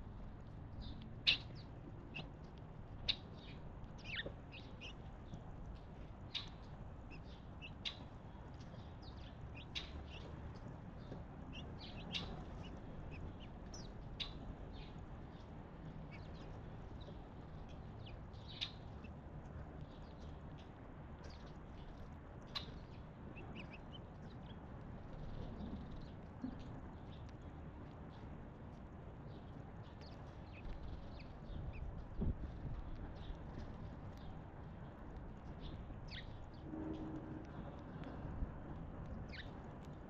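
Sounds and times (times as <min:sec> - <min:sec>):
small birds chirping: 0:00.7 - 0:36.6, 0:39.1 - 0:40.0.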